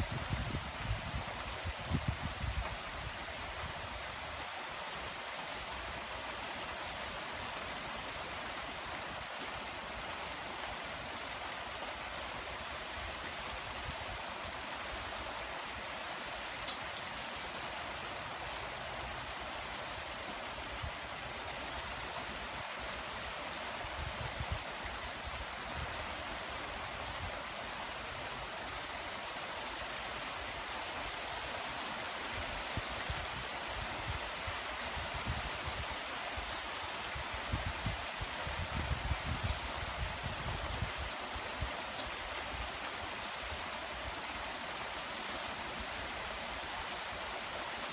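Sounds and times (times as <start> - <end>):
light rain hissing on foliage: 0.0 - 47.9.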